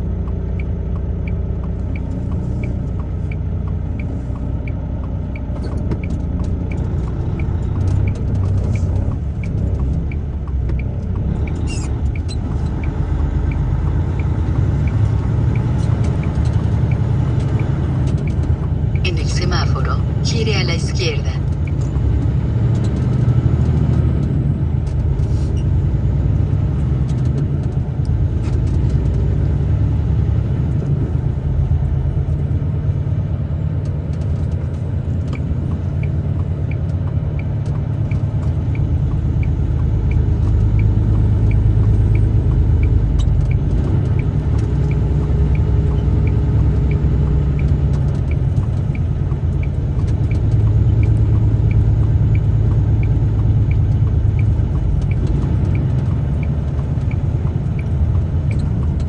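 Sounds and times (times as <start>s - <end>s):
truck engine rumble from inside cab: 0.0s - 59.0s
turn signal ticking: 0.0s - 59.0s.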